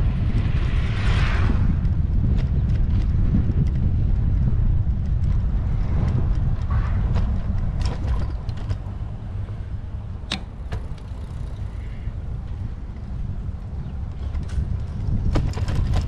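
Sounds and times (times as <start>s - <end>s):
wind rumble: 0.0s - 16.0s
bicycle clicks and rattles: 1.8s - 16.0s.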